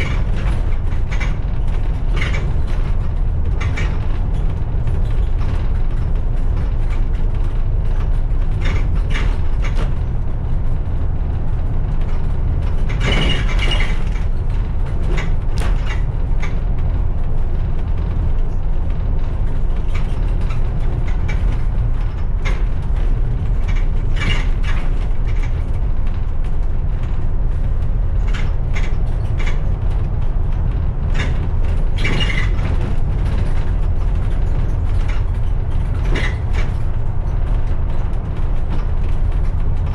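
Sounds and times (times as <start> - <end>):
rattles and clicks: 0.0 - 39.9.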